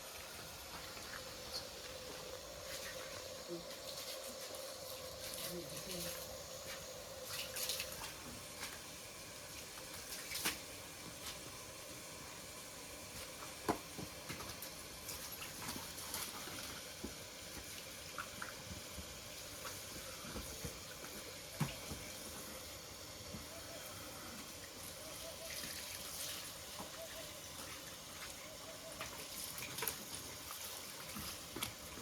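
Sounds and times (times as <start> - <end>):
water running and splashing: 0.0 - 32.0.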